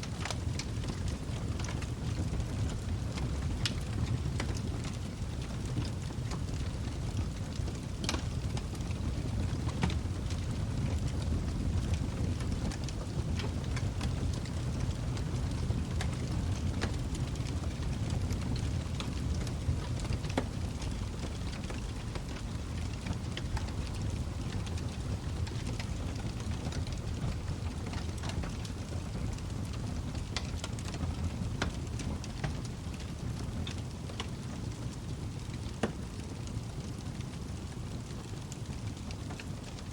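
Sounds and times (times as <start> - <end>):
fire crackling and popping: 0.0 - 39.9
fire flames rushing: 0.1 - 39.8.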